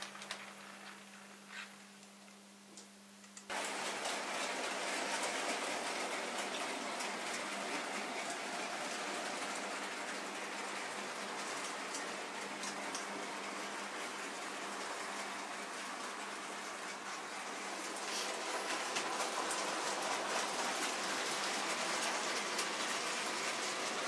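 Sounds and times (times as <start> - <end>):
model train wheels rattling: 3.5 - 24.0
wheels ticking on rail joints: 3.5 - 24.0.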